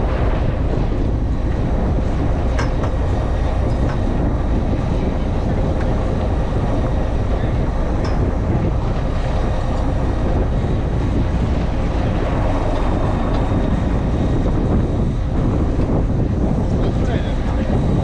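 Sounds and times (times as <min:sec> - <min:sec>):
boat engine rumbling: 0:00.0 - 0:18.0
boat wash: 0:00.0 - 0:18.0.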